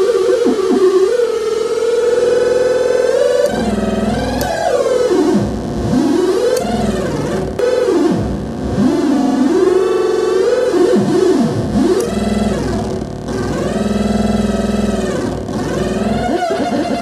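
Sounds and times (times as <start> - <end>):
buzzy warbling synth tone: 0.0 - 17.0.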